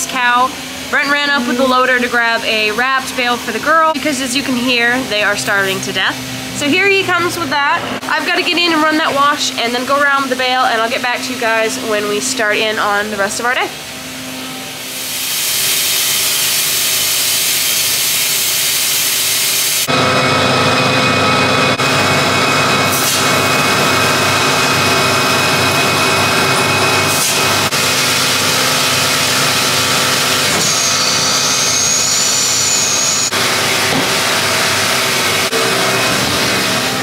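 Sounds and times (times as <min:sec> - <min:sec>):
milking machine running: 0:00.0 - 0:13.8, 0:14.4 - 0:37.0.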